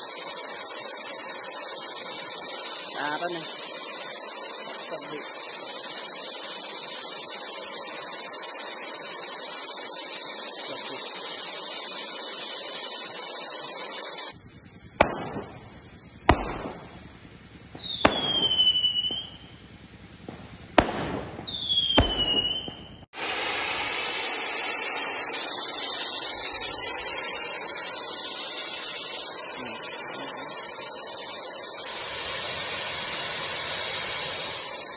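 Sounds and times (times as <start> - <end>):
firework cracks: 0.0 - 34.9
fountain fireworks hissing: 0.0 - 34.9.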